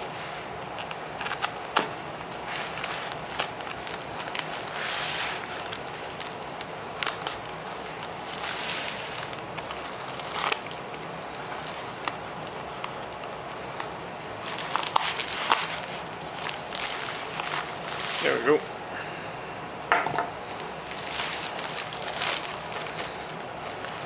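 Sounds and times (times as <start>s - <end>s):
envelope rustling and crinkling: 0.0s - 18.8s, 20.5s - 24.0s.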